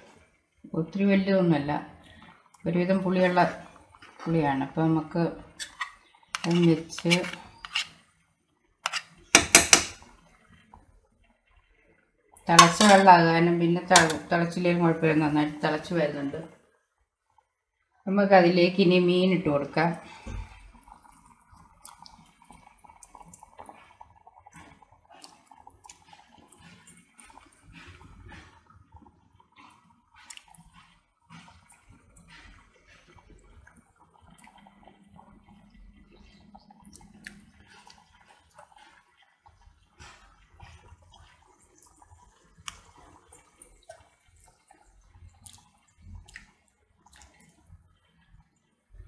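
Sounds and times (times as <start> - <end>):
curry bubbling softly: 0.0 - 49.0.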